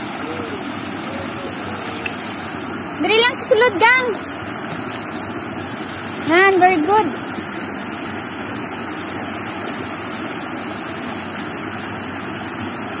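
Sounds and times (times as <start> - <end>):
small waterfall rushing over rocks: 0.0 - 13.0.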